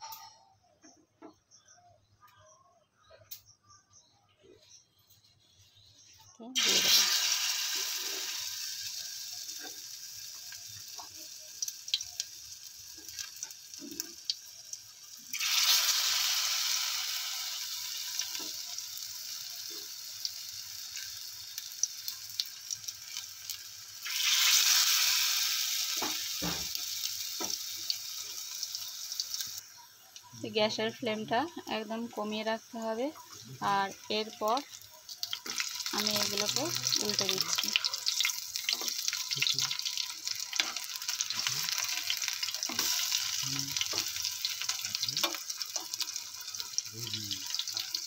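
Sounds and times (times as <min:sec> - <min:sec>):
batter frying in hot oil: 0:05.4 - 0:48.0.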